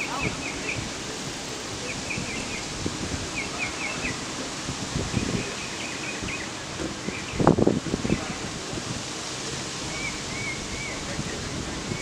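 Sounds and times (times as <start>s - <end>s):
wind hiss: 0.0s - 12.0s.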